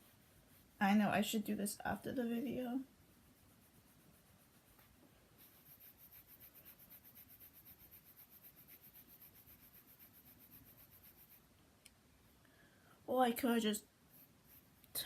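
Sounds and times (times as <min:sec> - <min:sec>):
brush rubbing on cloth: 0:00.0 - 0:11.5, 0:14.1 - 0:14.8.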